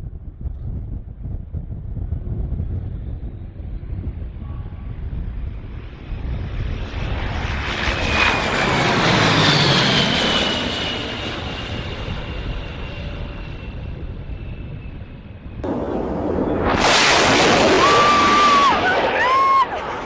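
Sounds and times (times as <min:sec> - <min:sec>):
low-flying airplane passing: 0:00.0 - 0:20.0.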